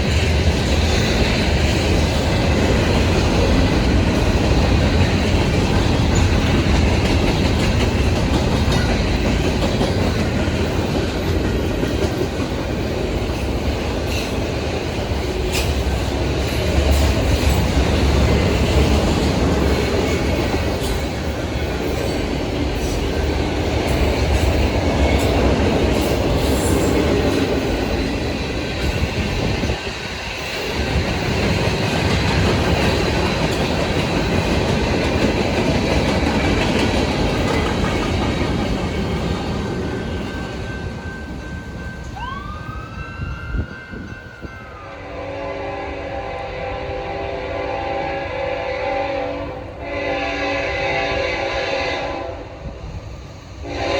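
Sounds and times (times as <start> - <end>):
freight train cars rolling past: 0.0 - 53.9.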